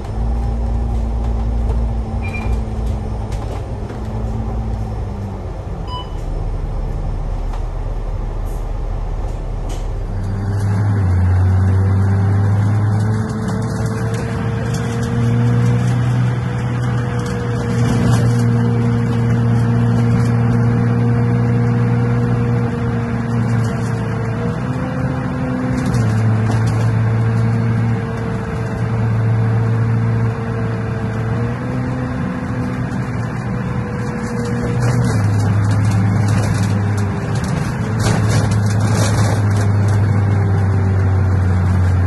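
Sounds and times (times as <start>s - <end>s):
bus engine drone: 0.0s - 42.0s
road noise: 0.0s - 42.0s.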